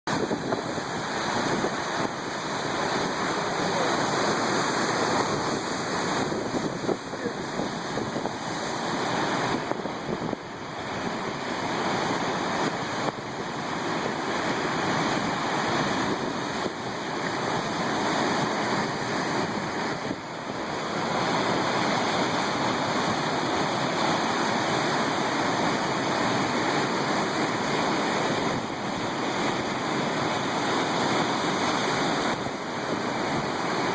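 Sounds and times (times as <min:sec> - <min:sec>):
loud surf breaking on shore: 0:00.1 - 0:33.9.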